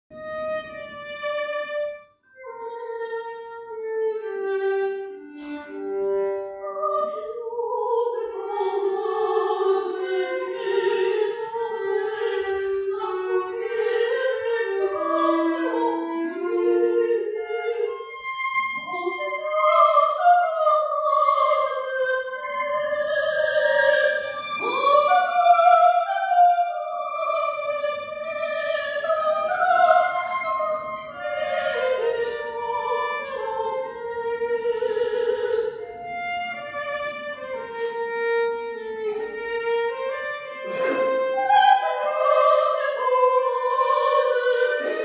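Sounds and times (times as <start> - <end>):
slow operatic classical melody: 0.2 - 45.0.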